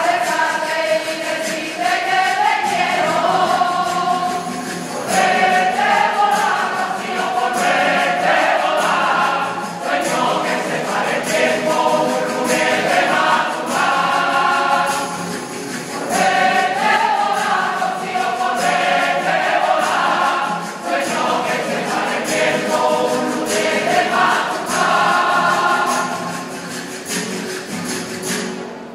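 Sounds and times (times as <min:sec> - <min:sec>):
choir singing: 0:00.0 - 0:27.8
strummed guitars: 0:00.0 - 0:28.9.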